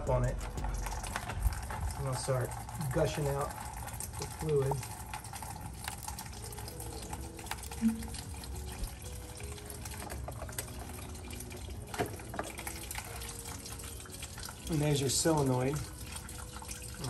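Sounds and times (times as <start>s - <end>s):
fluid pouring into a pan: 0.0s - 17.0s.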